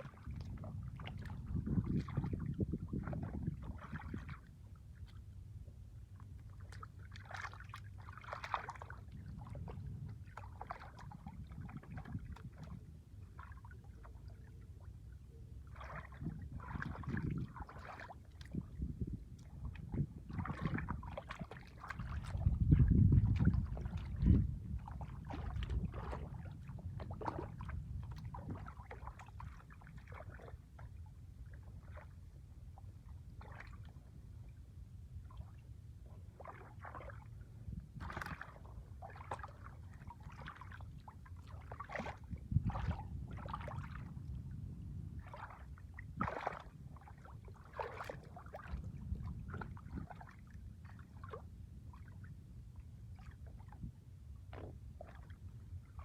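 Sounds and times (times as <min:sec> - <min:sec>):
shallow water splashing: 0:00.0 - 0:44.5, 0:45.1 - 0:56.0
low steady rumble: 0:00.0 - 0:56.0.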